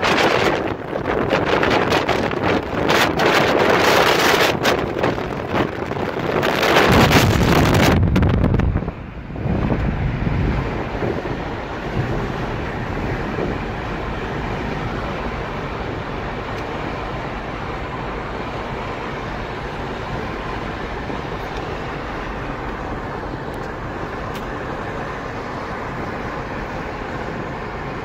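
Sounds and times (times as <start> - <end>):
car engine hum: 0.0 - 28.0.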